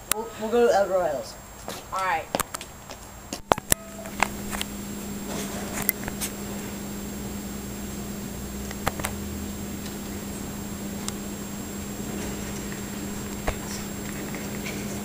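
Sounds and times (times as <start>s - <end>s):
background hiss: 0.0s - 15.0s
steady low hum: 0.0s - 15.0s.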